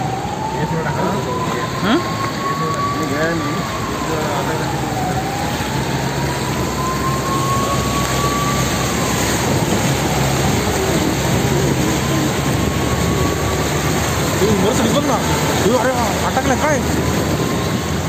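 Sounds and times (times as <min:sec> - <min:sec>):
water rushing and splashing: 0:00.0 - 0:18.0
low engine hum: 0:01.2 - 0:18.0.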